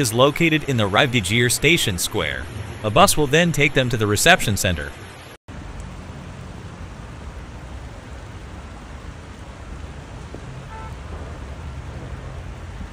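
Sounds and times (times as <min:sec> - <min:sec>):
falling rain: 0:00.0 - 0:12.9
rushing flooded river: 0:00.0 - 0:12.9.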